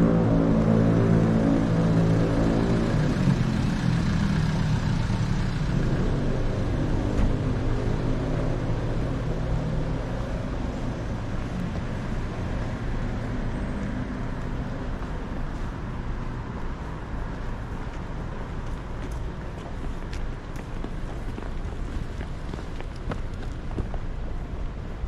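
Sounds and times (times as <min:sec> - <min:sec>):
street traffic noise: 0:00.0 - 0:25.0
vehicle engine humming: 0:00.0 - 0:25.0.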